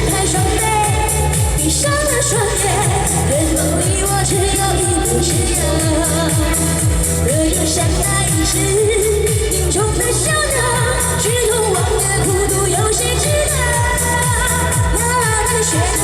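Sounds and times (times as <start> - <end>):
loud pop music with dance beat: 0.0 - 16.0.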